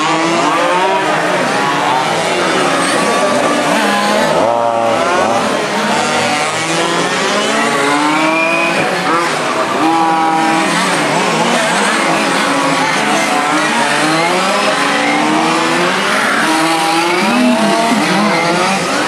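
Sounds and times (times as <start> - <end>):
model race car engines revving: 0.0 - 19.0.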